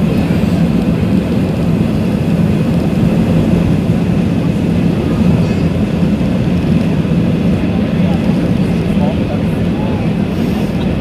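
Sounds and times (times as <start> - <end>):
jet engine and airflow drone: 0.0 - 11.0.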